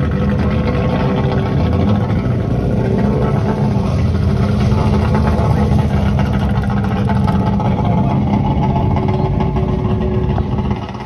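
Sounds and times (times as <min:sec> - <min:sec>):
racing car engine idling: 0:00.0 - 0:11.0.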